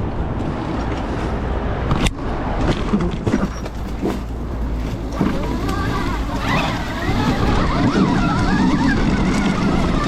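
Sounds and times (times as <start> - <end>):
wind and tyre noise: 0.0 - 10.0.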